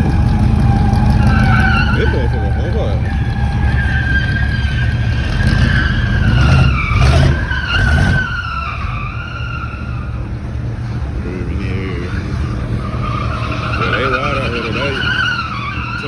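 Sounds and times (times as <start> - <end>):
car tyres squealing: 0.0 - 16.0
engine revving: 0.0 - 16.0.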